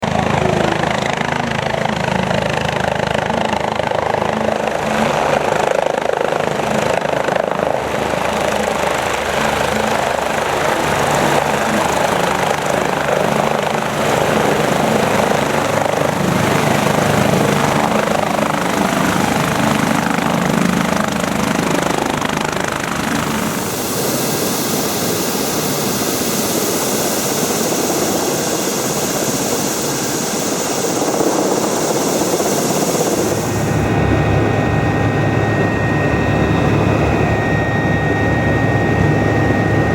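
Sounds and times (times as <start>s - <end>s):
helicopter rotor and engine: 0.0s - 39.9s
high turbine whine: 0.0s - 39.9s.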